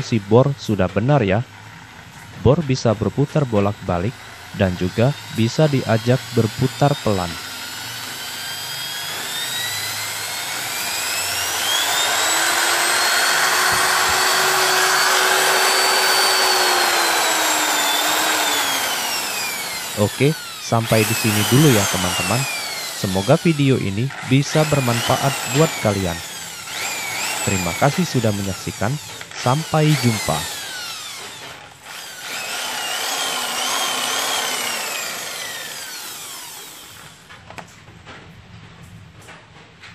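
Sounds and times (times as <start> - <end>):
electric drill motor whine: 1.5 - 37.3.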